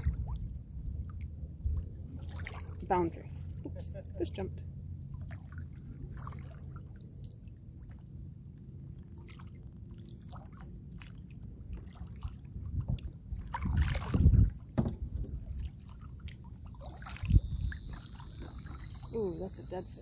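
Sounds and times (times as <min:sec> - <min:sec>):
paddle drips and splashes: 0:00.0 - 0:03.9, 0:05.0 - 0:19.6.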